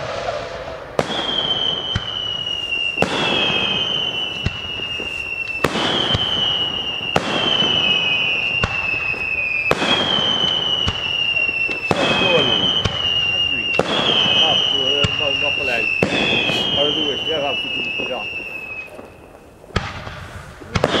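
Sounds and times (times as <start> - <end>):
falling firework whistle: 0.0 - 21.0
fireworks bangs: 0.0 - 21.0.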